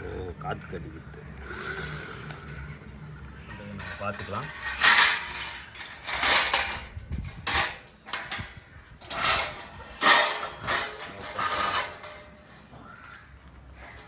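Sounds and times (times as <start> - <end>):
metal grill parts rattling: 1.3 - 14.0.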